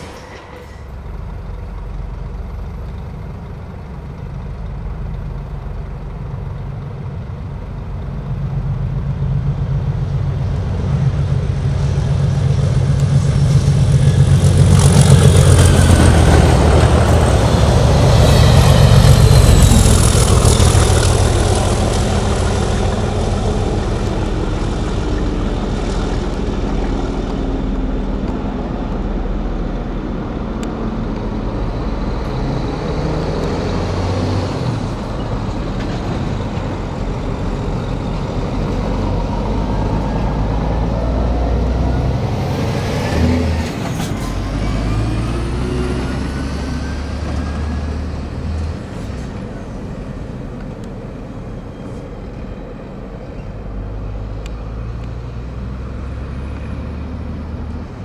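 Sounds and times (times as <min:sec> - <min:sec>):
diesel locomotive engine hum: 0:00.0 - 0:58.0.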